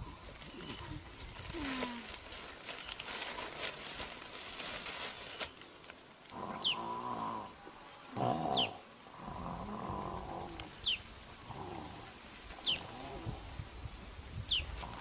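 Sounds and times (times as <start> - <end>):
leaves rustling and crackling: 0.0 - 15.0.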